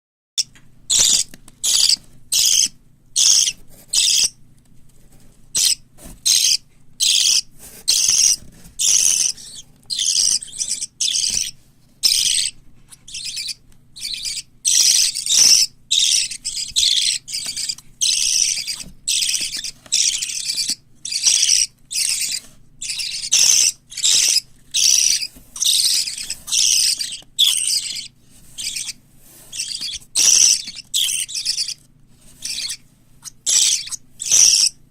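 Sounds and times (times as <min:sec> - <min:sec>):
parrot chicks calling raspily: 0:00.4 - 0:04.4, 0:05.5 - 0:34.8.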